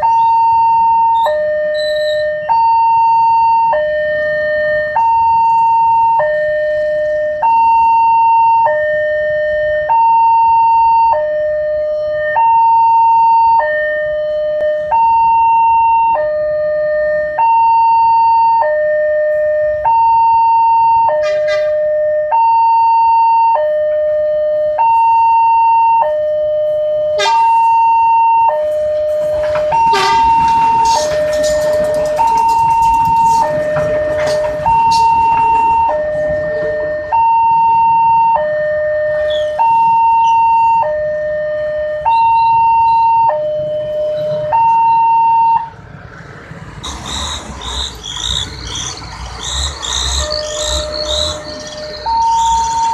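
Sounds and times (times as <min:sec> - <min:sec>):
two-tone level-crossing siren: 0:00.0 - 0:45.8, 0:46.8 - 0:52.9.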